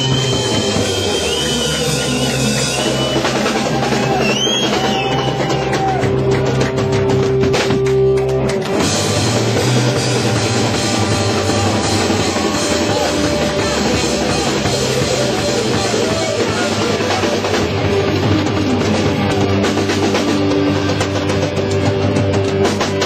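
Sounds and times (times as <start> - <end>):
drum kit: 0.0 - 23.0
electric bass: 0.0 - 23.0
electric guitar: 0.0 - 23.0.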